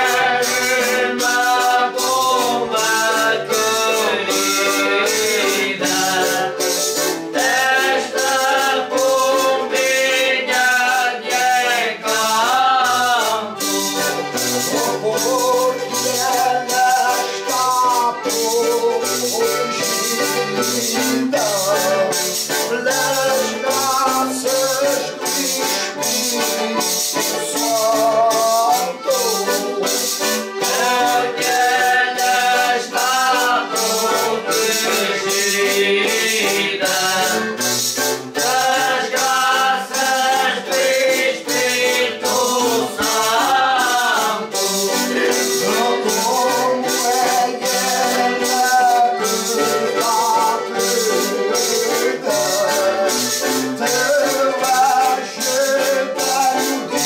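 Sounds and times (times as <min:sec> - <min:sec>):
men singing together: 0:00.0 - 0:57.0
strummed guitar: 0:00.0 - 0:57.0.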